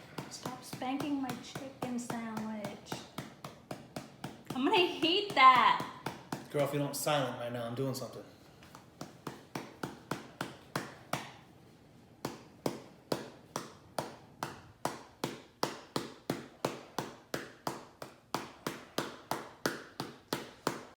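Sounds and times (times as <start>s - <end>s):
hand slapping sandwich: 0.0s - 7.2s, 8.4s - 20.9s.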